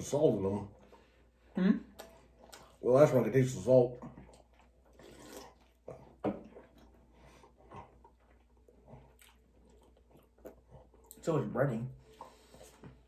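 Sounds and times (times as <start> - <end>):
people chewing food: 0.0 - 13.0.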